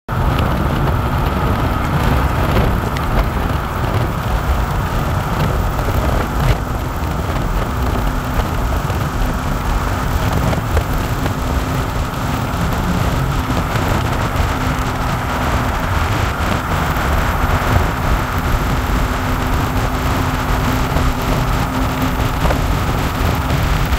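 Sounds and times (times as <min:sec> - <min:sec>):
road and wind noise in moving truck: 0:00.0 - 0:23.9.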